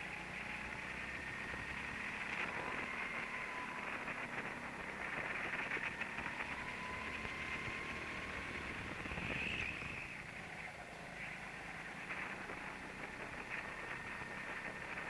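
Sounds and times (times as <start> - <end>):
go-kart engine rush: 0.0 - 15.0.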